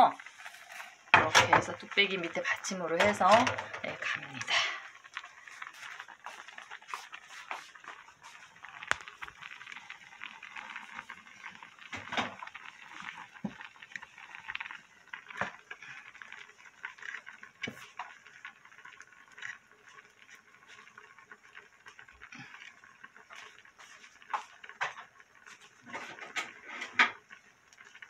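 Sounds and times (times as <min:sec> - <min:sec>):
soup bubbling and crackling: 0:00.0 - 0:28.0.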